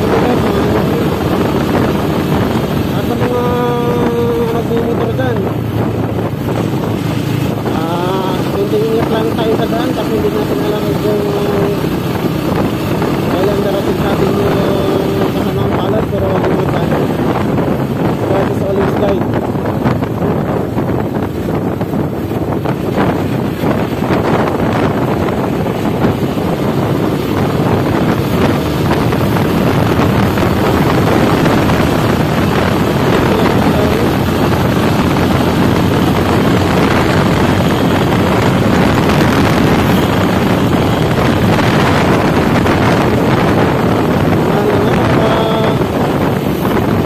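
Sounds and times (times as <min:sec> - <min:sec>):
motorcycle engine: 0:00.0 - 0:47.0
wind rushing on microphone: 0:00.0 - 0:47.0.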